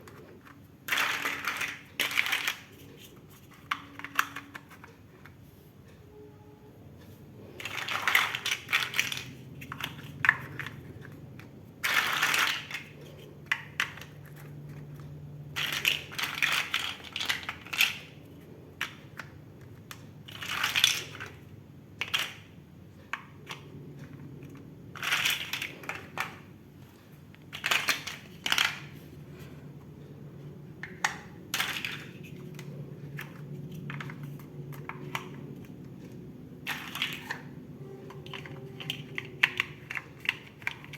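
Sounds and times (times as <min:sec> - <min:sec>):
plastic bricks clattering and clicking: 0:00.0 - 0:05.4, 0:07.4 - 0:30.0, 0:30.7 - 0:40.9.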